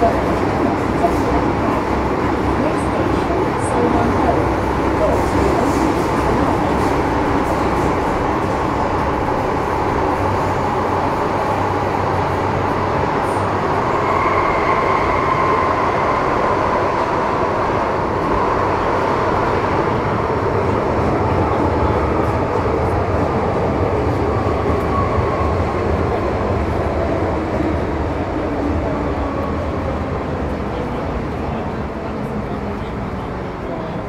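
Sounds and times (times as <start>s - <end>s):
train interior rumble: 0.0s - 34.0s.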